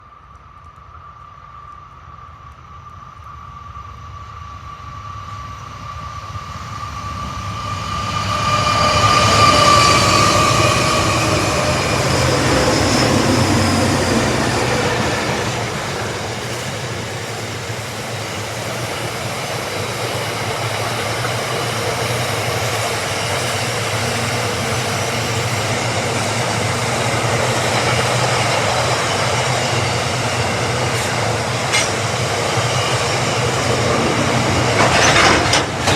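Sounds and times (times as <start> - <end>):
locomotive engine whine: 0.0 - 35.9
train wagons rumbling and rattling: 6.0 - 35.9.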